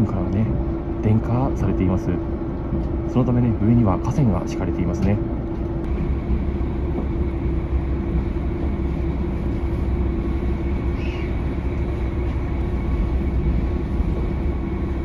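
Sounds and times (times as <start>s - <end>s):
train rumbling with hum: 0.0s - 15.0s.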